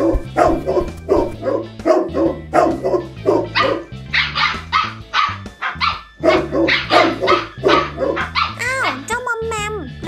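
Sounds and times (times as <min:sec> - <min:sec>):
dog barking: 0:00.0 - 0:09.0
background music with bass line: 0:00.0 - 0:10.0.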